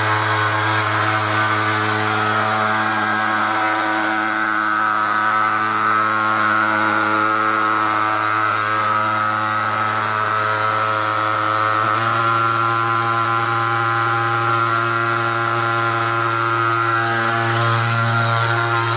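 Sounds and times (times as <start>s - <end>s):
pulse-jet fogger droning: 0.0s - 18.9s.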